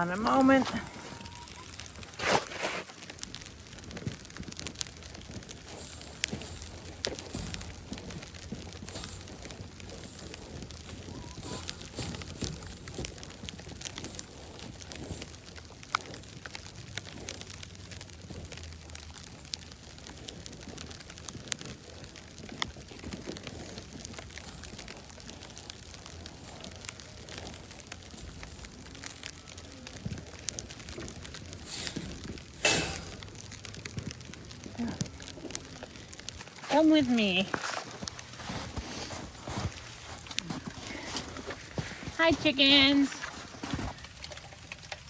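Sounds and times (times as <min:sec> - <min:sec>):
icy snow crunching: 0:00.0 - 0:45.0
sleet ticking on snow: 0:00.0 - 0:45.0.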